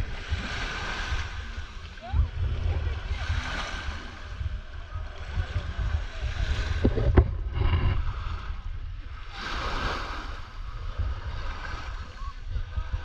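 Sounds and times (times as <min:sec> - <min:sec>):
water lapping and sloshing: 0:00.0 - 0:13.0
wind buffeting microphone: 0:00.0 - 0:13.0.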